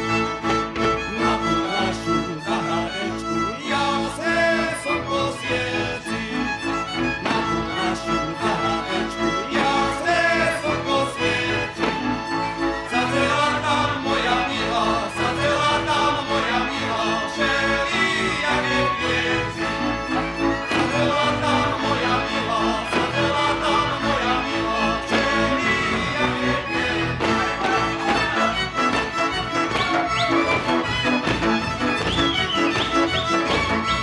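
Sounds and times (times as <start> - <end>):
folk string band dance tune: 0.0 - 34.0.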